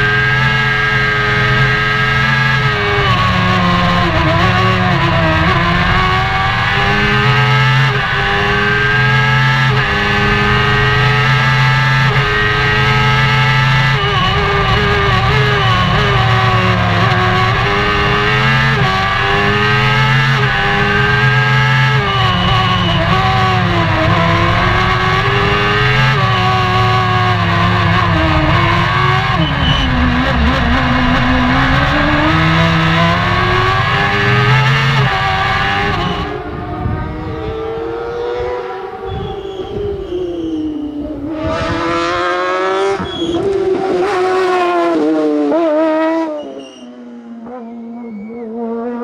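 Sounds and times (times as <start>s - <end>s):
race car engine revving: 0.0s - 49.0s.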